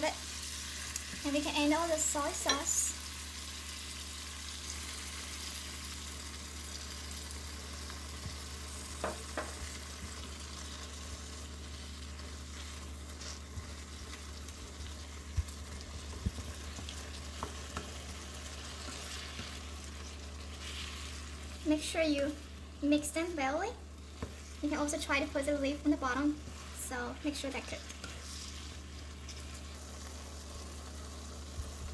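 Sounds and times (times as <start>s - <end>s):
food sizzling in a frying pan: 0.0s - 31.9s.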